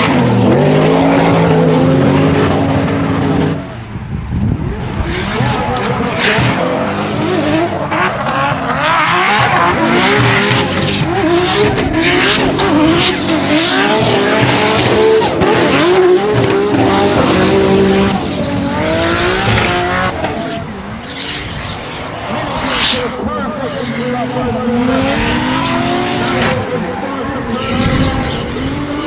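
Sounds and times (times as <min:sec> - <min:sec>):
car engines revving hard: 0:00.0 - 0:29.0.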